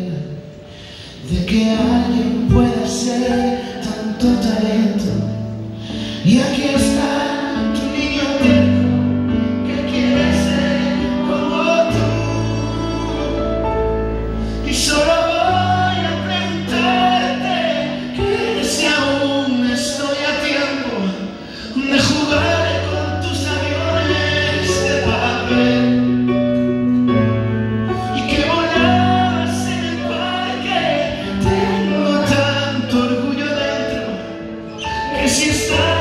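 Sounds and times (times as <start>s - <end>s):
man singing into microphone: 0.0s - 26.2s, 27.9s - 36.0s
slow held accompaniment chords: 0.0s - 36.0s.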